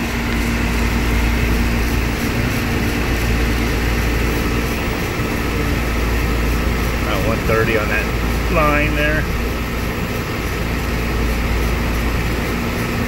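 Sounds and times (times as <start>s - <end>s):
compressor hum: 0.0s - 13.0s
fan rushing air: 0.0s - 13.0s.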